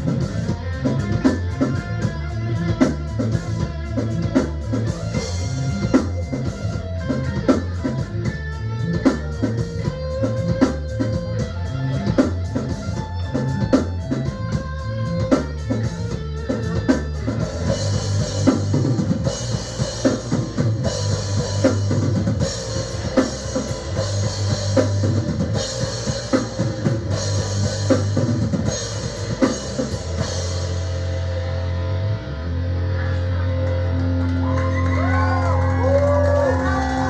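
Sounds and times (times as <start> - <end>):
distorted guitar and bass: 0.0 - 37.0
drum kit: 0.0 - 37.0.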